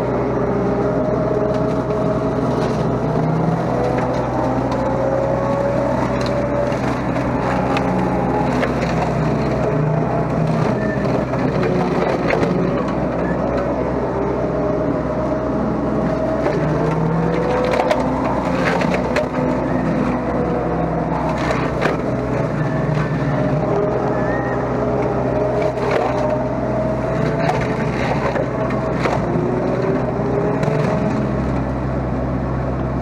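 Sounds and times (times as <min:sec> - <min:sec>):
excavator running: 0:00.0 - 0:33.0
machine whine: 0:00.0 - 0:33.0
woody stems cracking and splintering: 0:01.4 - 0:13.7, 0:15.9 - 0:31.8.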